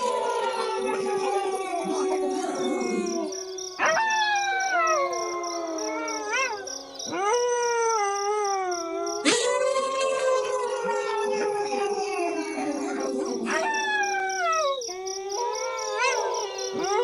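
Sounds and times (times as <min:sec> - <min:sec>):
wolves howling: 0:00.0 - 0:17.0.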